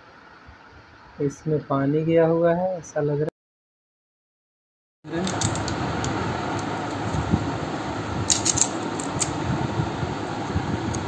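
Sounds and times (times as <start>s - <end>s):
steady background hum: 0.0s - 3.3s, 5.1s - 11.0s.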